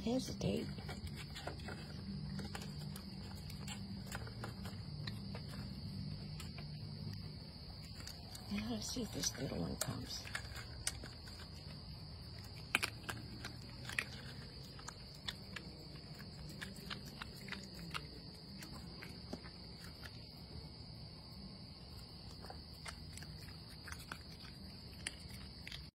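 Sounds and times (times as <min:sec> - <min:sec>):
night insects trilling: 0:00.0 - 0:25.9
raccoon chewing: 0:00.0 - 0:26.0.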